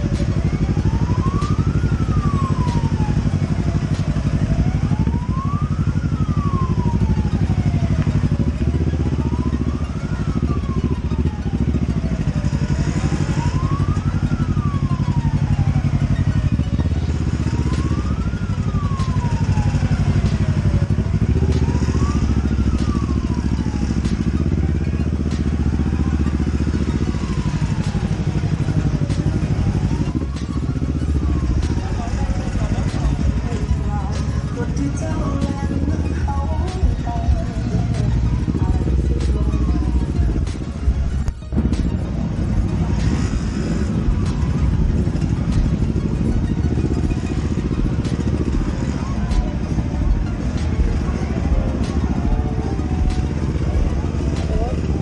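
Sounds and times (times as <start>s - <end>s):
motorcycle engines running: 0.0s - 55.0s
police siren wailing: 0.0s - 55.0s.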